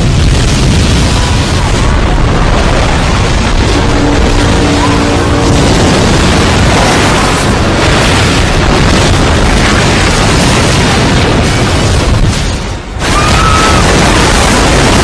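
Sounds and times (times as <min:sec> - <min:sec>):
loud low rumbling: 0:00.0 - 0:15.0.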